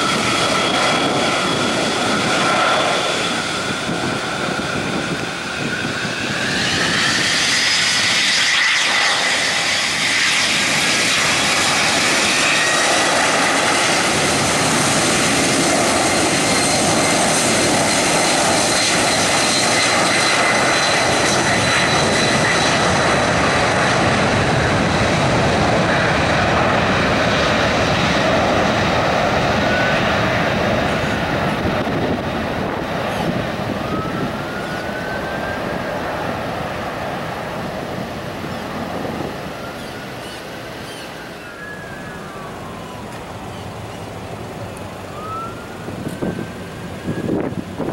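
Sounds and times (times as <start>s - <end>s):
jet engines spooling up: 0.0s - 47.9s
loud jet roar with whine: 0.0s - 47.9s.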